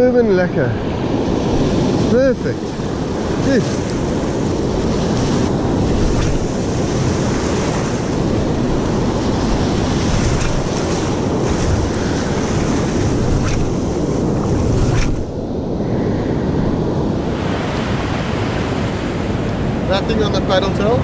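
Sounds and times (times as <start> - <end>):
surf breaking on a beach: 0.0 - 21.0
wind buffeting microphone: 0.0 - 21.0.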